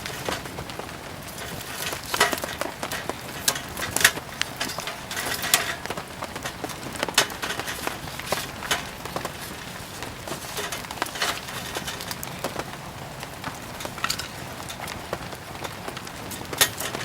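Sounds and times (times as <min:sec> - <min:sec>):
firewood crackling and popping: 0:00.0 - 0:17.0
rain hissing: 0:00.0 - 0:17.0.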